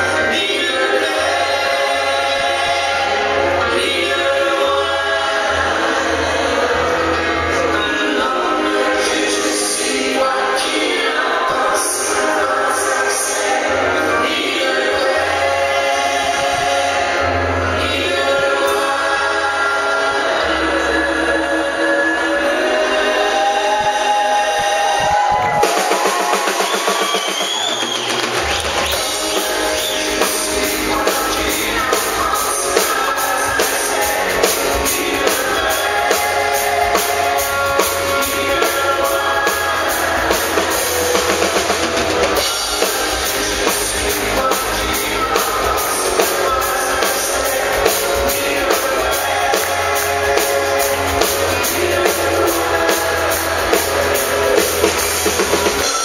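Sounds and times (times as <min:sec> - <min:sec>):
man and woman singing duet: 0:00.0 - 0:27.6, 0:28.9 - 0:56.0
live rock band playing: 0:00.0 - 0:56.0.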